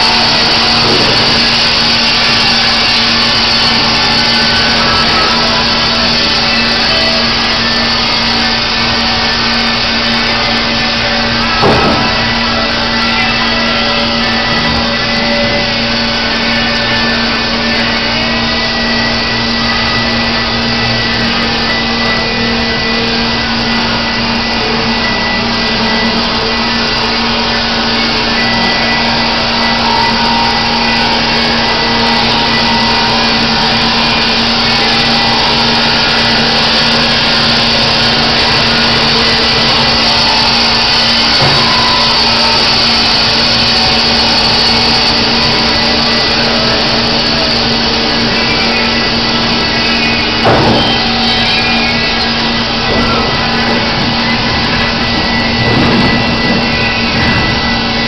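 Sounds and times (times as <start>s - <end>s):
band sawmill running: 0.0s - 58.0s.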